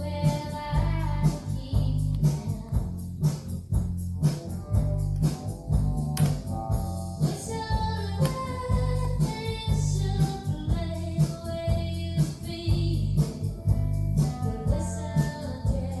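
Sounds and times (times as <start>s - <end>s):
song with beat and bass: 0.0s - 16.0s.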